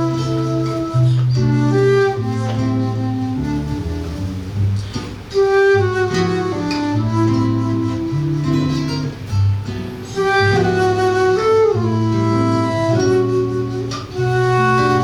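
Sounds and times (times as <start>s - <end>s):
flute melody: 0.0s - 15.0s
plucked guitar chords: 0.0s - 15.0s.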